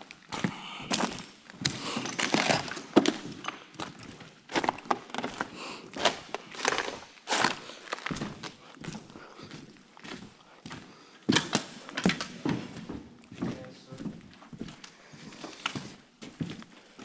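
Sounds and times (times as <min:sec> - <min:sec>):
footsteps crunching over debris: 0:00.0 - 0:17.0.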